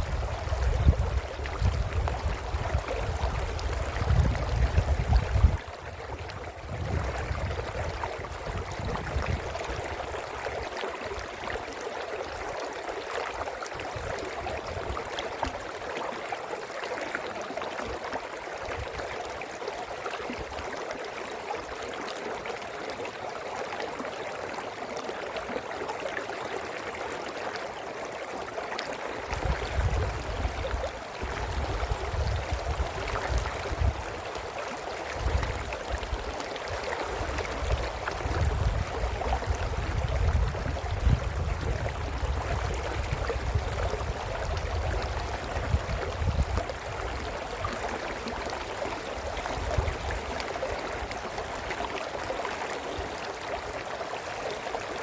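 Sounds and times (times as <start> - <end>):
brook babbling: 0.0 - 55.0.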